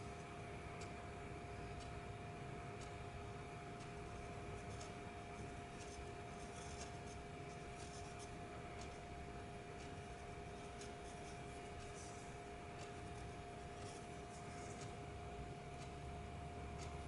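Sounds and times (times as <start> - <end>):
steady two-tone hum: 0.0 - 17.0.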